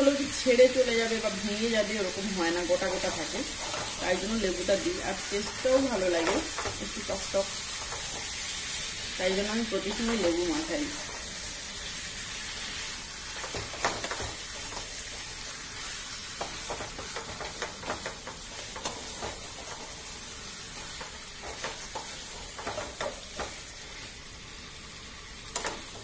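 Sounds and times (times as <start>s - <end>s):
food sizzling in oil: 0.0s - 26.0s
spatula scraping a pan: 3.0s - 24.2s.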